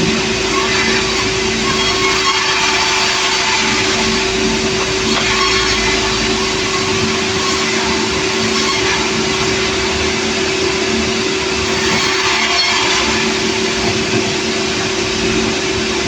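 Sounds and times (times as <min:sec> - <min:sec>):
sawmill machinery droning: 0:00.0 - 0:16.0.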